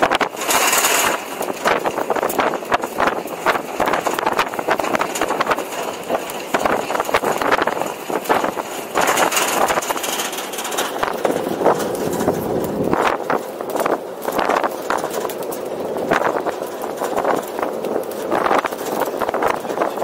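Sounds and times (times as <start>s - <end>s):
knocks and rattles: 0.0s - 20.0s
truck engine running: 0.0s - 20.0s.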